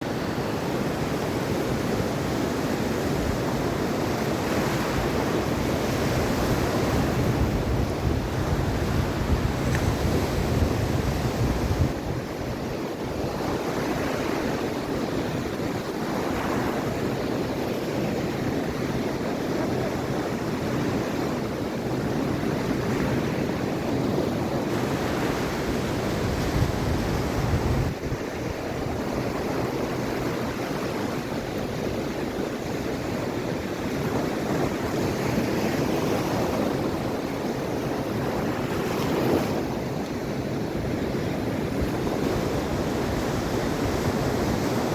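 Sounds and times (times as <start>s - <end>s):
waves breaking on shore: 0.0s - 44.9s
wind buffeting microphone: 0.0s - 44.9s.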